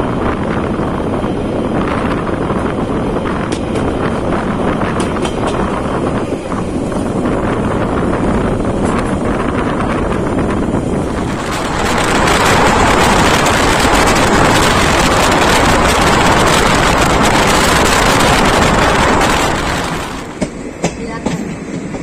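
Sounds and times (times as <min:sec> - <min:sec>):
train wind and rail noise: 0:00.0 - 0:22.0.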